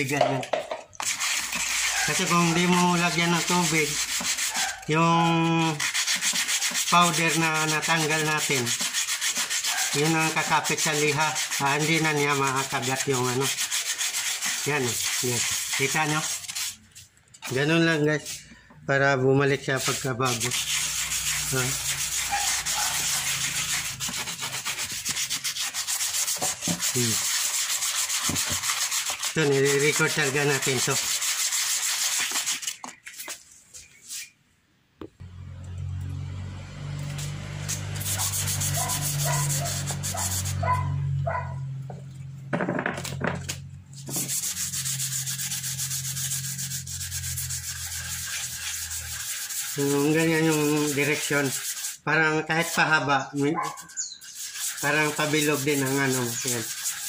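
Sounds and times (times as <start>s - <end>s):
wet sandpaper scratching plastic: 0.0s - 0.2s, 1.0s - 18.4s, 19.4s - 34.4s, 37.0s - 40.8s, 43.9s - 57.0s.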